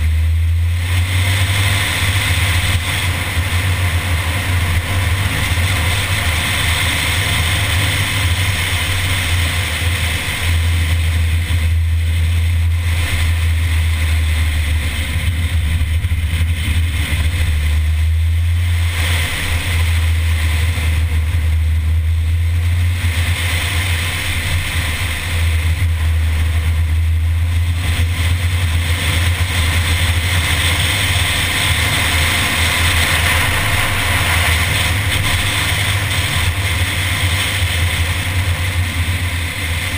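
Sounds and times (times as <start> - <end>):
car engine and road rumble: 0.0 - 39.9
loud wind hiss: 0.0 - 39.9.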